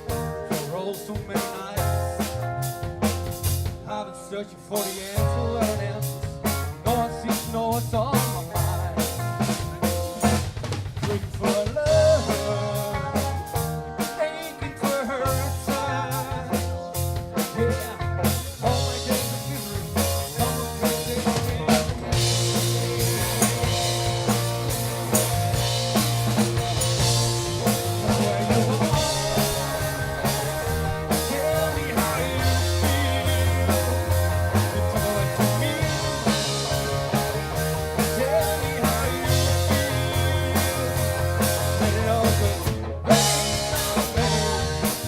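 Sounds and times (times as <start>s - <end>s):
drum kit beat: 0.0s - 3.9s, 4.7s - 45.0s
rock band playing: 0.0s - 45.0s.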